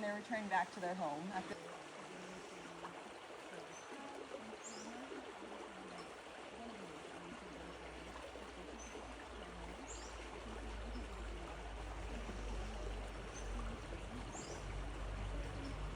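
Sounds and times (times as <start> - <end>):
creek water flowing: 0.0 - 15.9.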